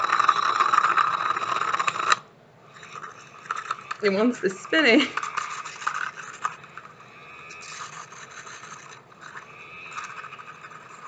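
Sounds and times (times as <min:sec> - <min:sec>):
small motor whirring: 0:00.0 - 0:11.0.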